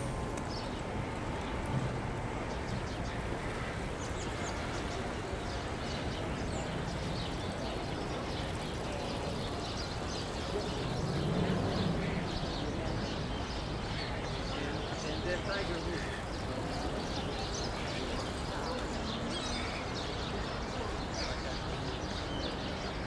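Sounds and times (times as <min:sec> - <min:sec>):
traffic and city noise: 0:00.0 - 0:23.0.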